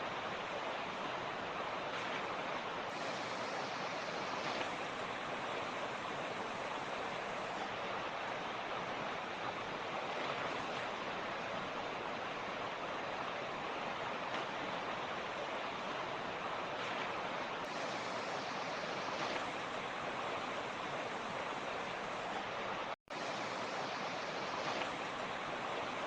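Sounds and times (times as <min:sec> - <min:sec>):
creek water rushing over rocks: 0:00.0 - 0:26.0.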